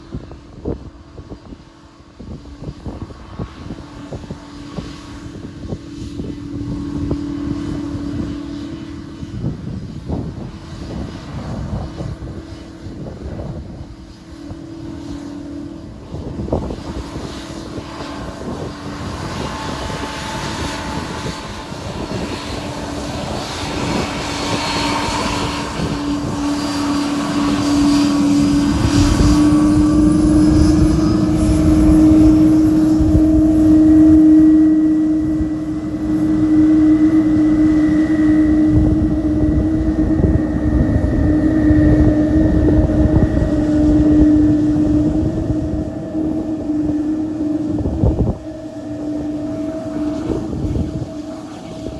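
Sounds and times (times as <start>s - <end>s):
jet engines taxiing with whine: 0.0s - 51.9s.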